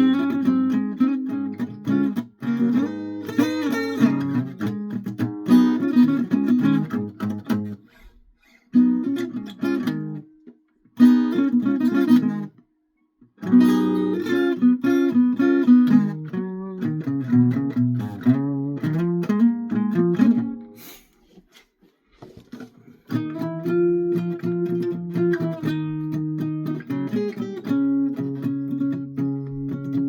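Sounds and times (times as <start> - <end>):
guitar picking and strumming: 0.0 - 12.6, 13.4 - 21.0, 22.5 - 30.0.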